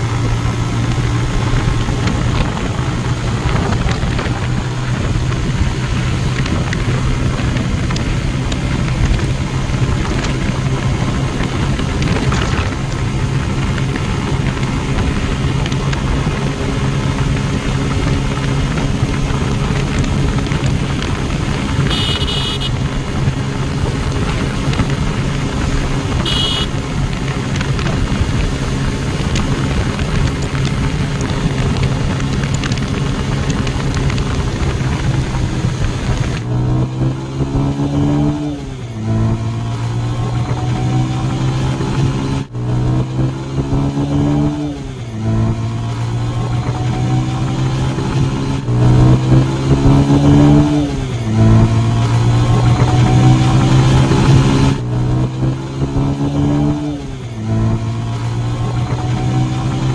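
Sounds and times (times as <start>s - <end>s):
motorcycle engine at high revs: 0.0s - 59.9s
wind rushing on microphone: 0.0s - 59.9s.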